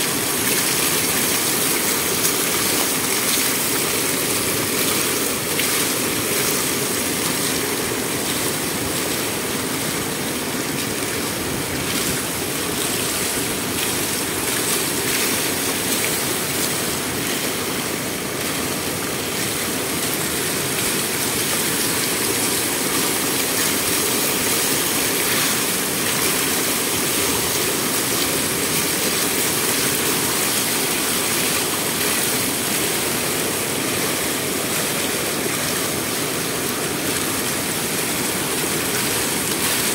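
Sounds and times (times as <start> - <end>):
water rushing over stone sill: 0.0 - 39.9.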